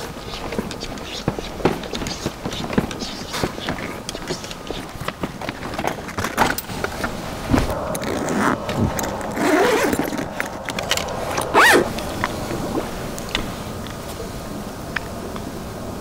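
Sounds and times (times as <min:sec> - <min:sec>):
rustling: 0:00.0 - 0:14.3.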